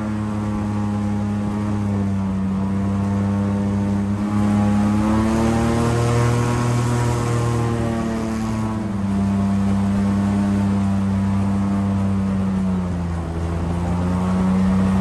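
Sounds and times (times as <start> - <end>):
airboat engine and propeller drone: 0.0 - 15.0.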